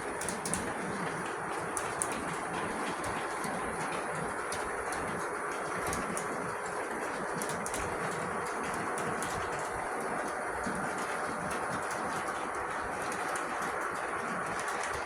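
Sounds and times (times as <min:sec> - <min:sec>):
rumble of train wheels and motors: 0:00.0 - 0:15.0
wheels clicking over rail joints: 0:00.0 - 0:15.0.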